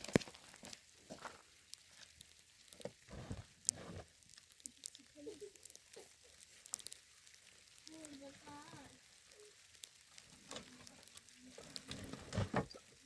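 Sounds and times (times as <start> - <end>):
small clicks and taps: 0.0 - 3.0, 3.6 - 13.0.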